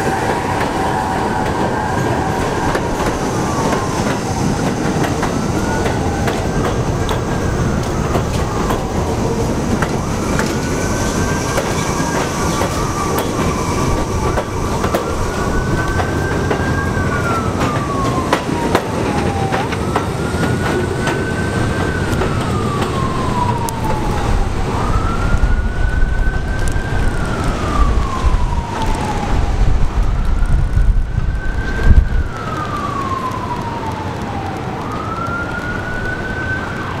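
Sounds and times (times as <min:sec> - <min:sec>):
siren wailing: 0:00.0 - 0:37.0
subway train rumble: 0:00.0 - 0:37.0.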